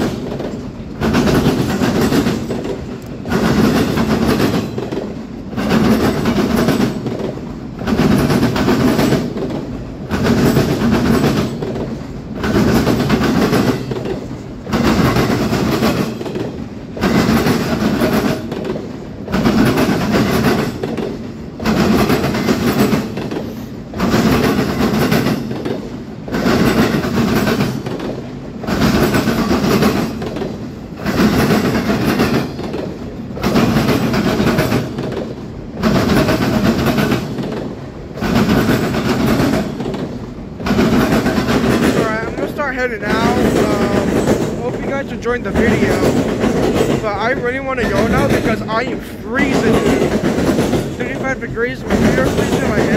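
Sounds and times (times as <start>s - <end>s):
freight train cars rolling past: 0.0s - 52.9s.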